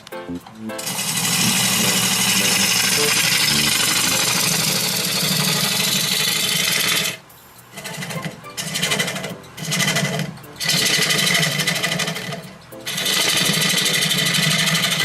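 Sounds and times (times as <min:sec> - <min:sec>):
power tool cutting wood: 0:00.8 - 0:07.2, 0:07.8 - 0:15.0.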